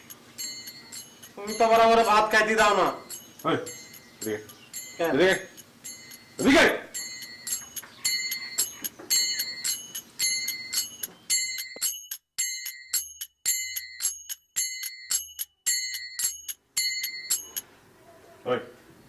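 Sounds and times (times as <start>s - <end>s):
bell-like struck notes music: 0.0s - 17.7s.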